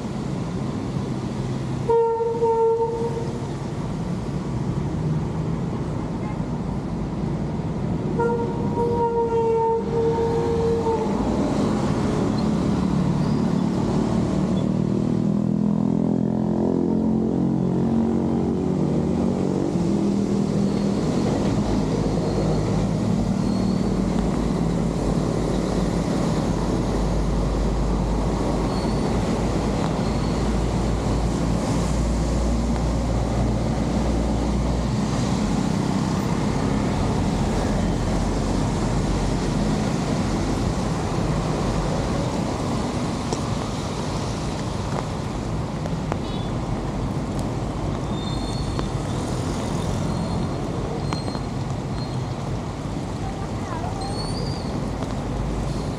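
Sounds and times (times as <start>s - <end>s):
steady rain: 0.0s - 15.0s, 15.6s - 55.9s
traffic on wet road: 0.0s - 55.9s.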